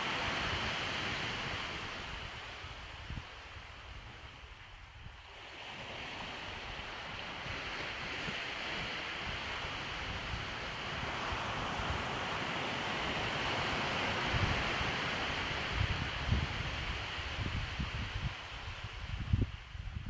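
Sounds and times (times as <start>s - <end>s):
sea waves washing onto beach: 0.0s - 19.9s
wind buffeting microphone: 0.0s - 20.0s.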